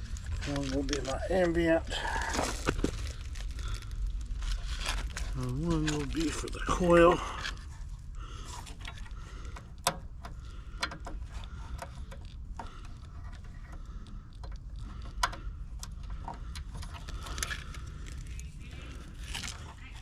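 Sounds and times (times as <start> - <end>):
wire connectors clicking and rattling: 0.0 - 20.0.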